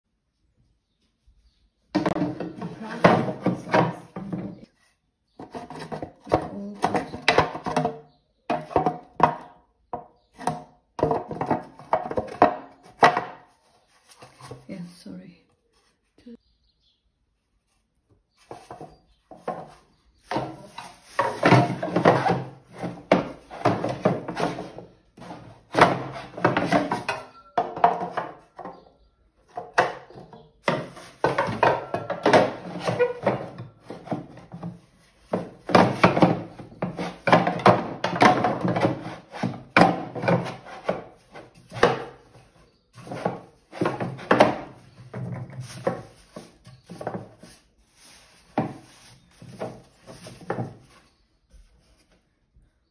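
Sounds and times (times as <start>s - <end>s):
plastic scraping on plastic: 2.0s - 14.9s, 17.6s - 28.8s, 29.5s - 52.2s.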